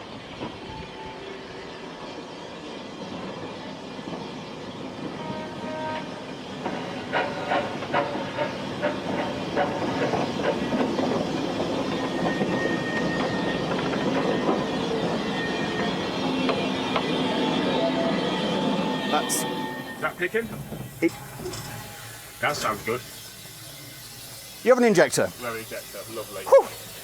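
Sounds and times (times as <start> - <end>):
steam locomotive running: 0.0 - 27.0
steam hissing: 4.8 - 27.0.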